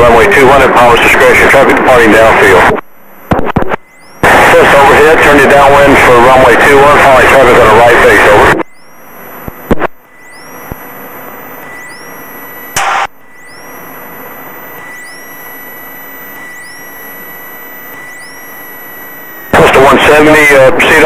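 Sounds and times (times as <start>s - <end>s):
radio bursts: 0.0s - 21.0s
thin steady whine: 0.0s - 21.0s.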